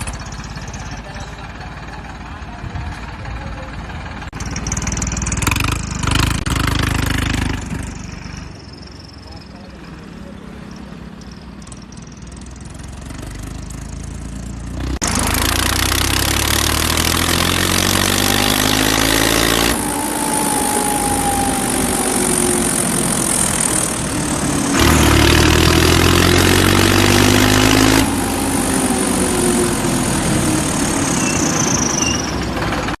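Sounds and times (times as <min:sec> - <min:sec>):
tractor engine revving: 0:00.0 - 0:33.0.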